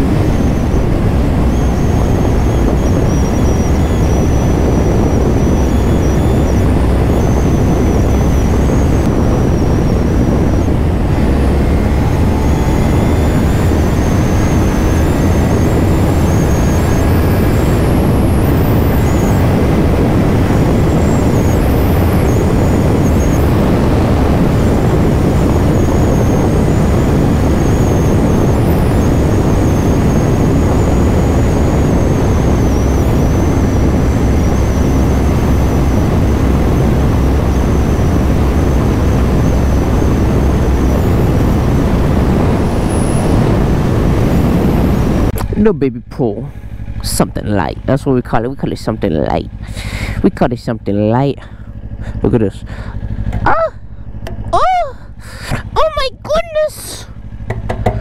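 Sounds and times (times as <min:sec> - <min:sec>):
wind noise on microphone: 0:00.0 - 0:50.5
motorcycle engine running: 0:00.0 - 0:58.0.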